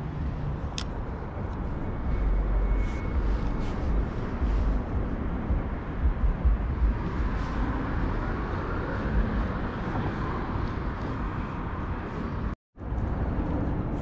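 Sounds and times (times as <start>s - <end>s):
traffic rumbling over bridge: 0.0s - 14.0s.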